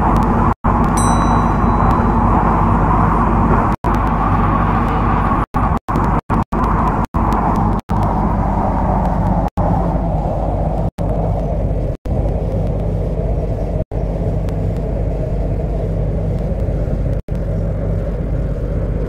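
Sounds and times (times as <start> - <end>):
train wheel and motor rush: 0.0 - 19.0.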